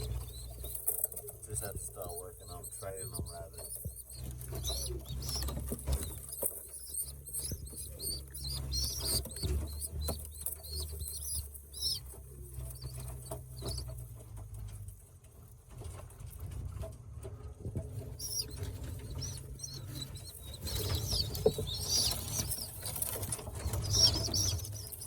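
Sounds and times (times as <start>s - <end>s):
young pigeons squeaking: 0.0s - 16.9s, 17.7s - 25.0s
patter of feet and feathers: 0.0s - 25.0s.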